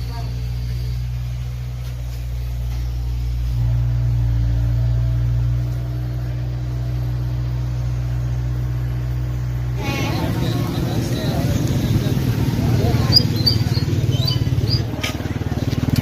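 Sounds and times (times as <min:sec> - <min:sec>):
low motor rumble: 0:00.0 - 0:16.0.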